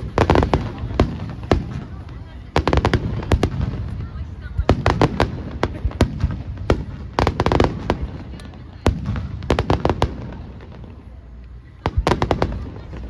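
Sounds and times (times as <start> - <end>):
fireworks bursting with bangs: 0.0 - 13.0
rapid crackling pops: 0.0 - 13.0.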